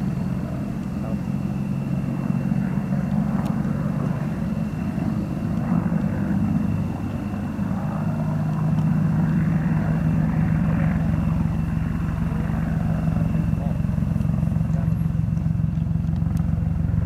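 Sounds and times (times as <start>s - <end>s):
helicopter engines droning: 0.0s - 17.0s
helicopter rotor beating: 0.0s - 17.0s.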